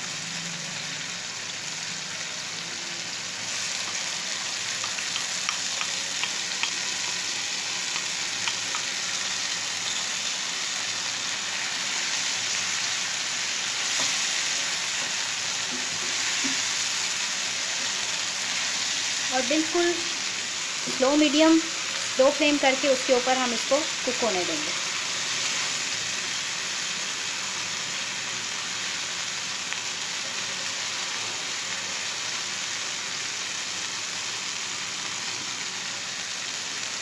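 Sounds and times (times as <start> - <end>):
hot oil sizzling in a frying pan: 0.0 - 37.0.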